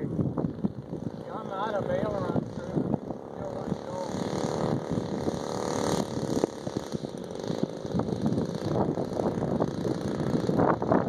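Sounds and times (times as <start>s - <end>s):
model plane engine running: 0.0s - 11.0s
wind buffeting microphone: 0.0s - 11.0s.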